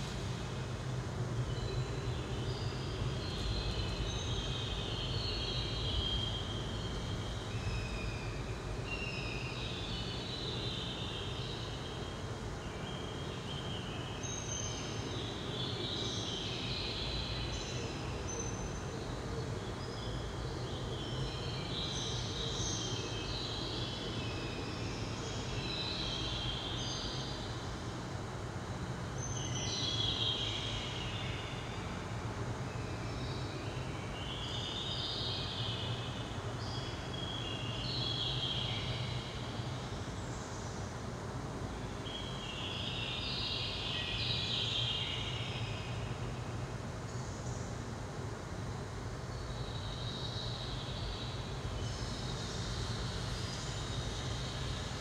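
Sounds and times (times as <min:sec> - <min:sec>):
low rumble and hiss: 0:00.0 - 0:55.0.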